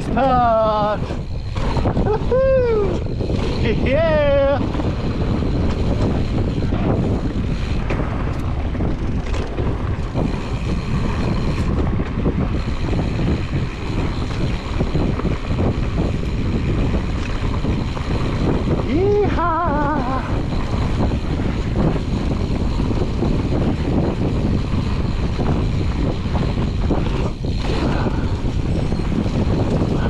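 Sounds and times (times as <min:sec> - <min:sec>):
bike knocking and rattling: 0:00.0 - 0:30.0
wind rushing over microphone: 0:00.0 - 0:30.0
tyres rolling on dirt: 0:03.0 - 0:30.0.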